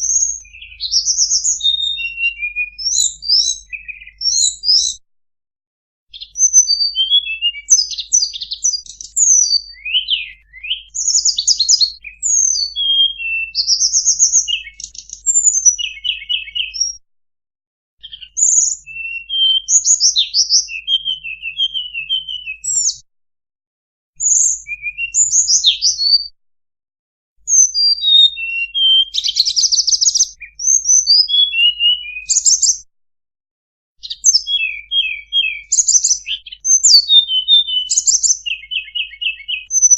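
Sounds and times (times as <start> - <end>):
bird chirping and trilling: 0.0 - 5.0, 6.1 - 17.0, 18.0 - 23.0, 24.2 - 26.3, 27.5 - 32.8, 34.0 - 39.9.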